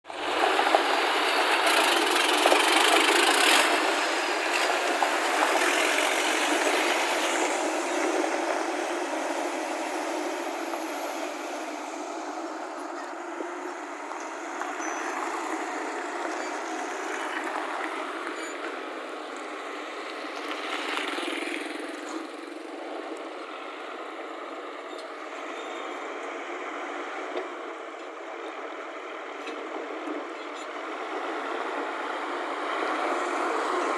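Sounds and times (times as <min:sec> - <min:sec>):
construction machinery engine running: 0:00.1 - 0:33.9.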